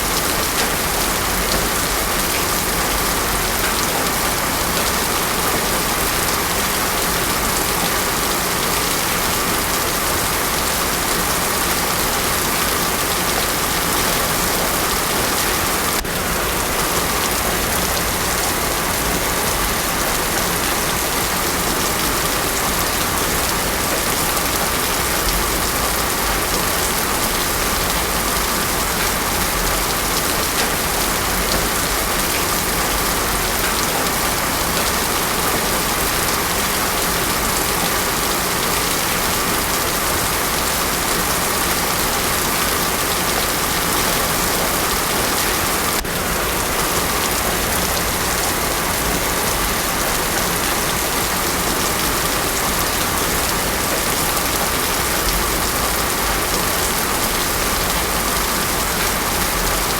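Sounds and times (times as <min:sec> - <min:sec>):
heavy rain on a road: 0:00.0 - 0:59.9.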